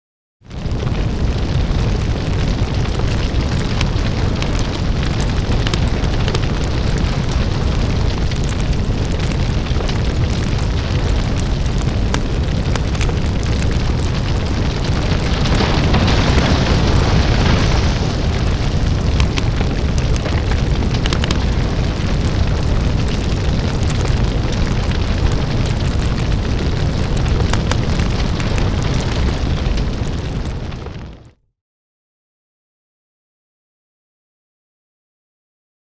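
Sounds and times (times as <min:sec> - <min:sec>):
fire rumbling and crackling: 0:00.4 - 0:31.4.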